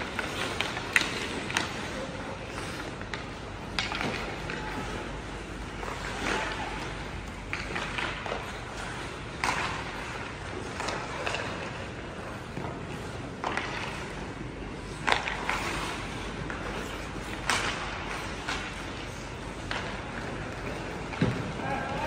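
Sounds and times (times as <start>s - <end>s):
hockey sticks and puck clacking: 0.0s - 22.0s
skate blades scraping ice: 0.0s - 22.0s.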